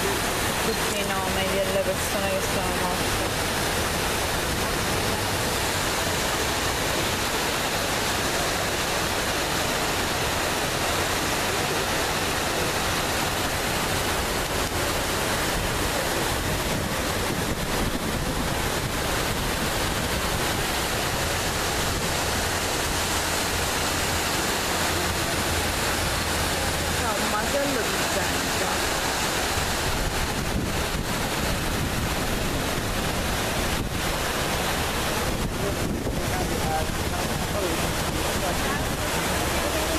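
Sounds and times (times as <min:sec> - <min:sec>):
fountain waterfall rushing: 0:00.0 - 0:39.9.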